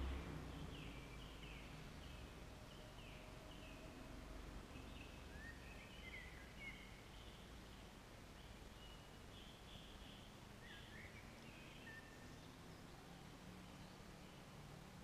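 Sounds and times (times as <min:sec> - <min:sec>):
birds singing faintly: 0:00.0 - 0:15.0.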